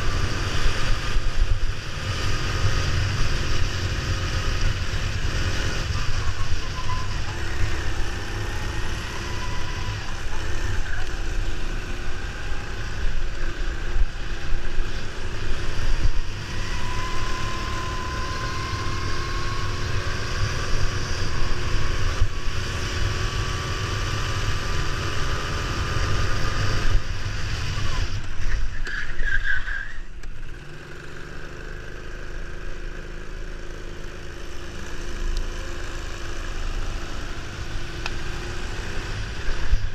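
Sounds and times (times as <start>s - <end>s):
go-kart engine running: 0.0s - 28.9s, 30.2s - 39.9s.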